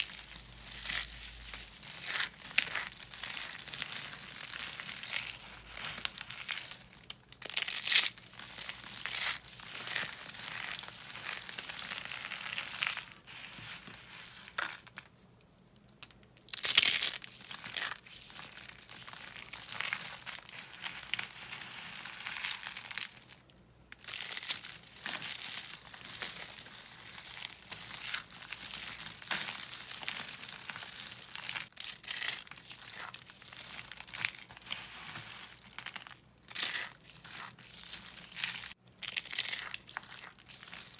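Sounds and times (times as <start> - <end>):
dry soap crunching by hand: 0.0 - 15.1, 16.0 - 40.9.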